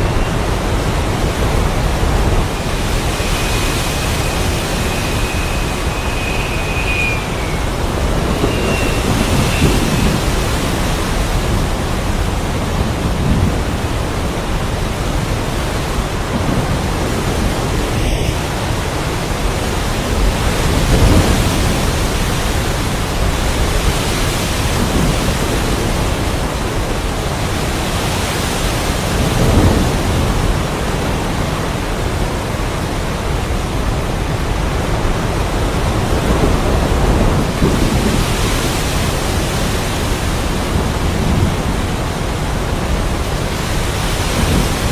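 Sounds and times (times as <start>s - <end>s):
thunder rolling: 0.0s - 27.8s, 35.6s - 44.9s
heavy rain pouring: 0.0s - 44.9s.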